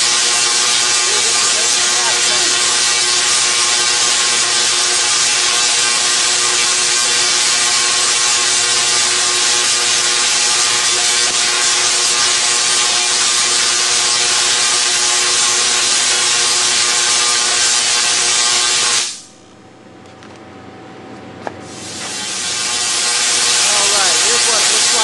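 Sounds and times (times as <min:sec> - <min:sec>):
tesla coil buzzing hiss: 0:00.0 - 0:19.4, 0:21.6 - 0:25.0
steady hum: 0:00.0 - 0:25.0.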